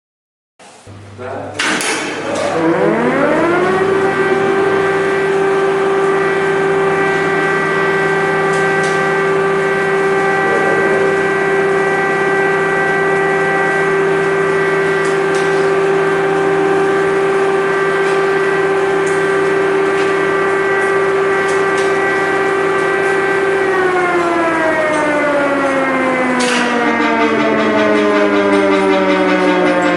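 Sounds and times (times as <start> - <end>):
air-raid siren steady tone: 2.2 - 29.9.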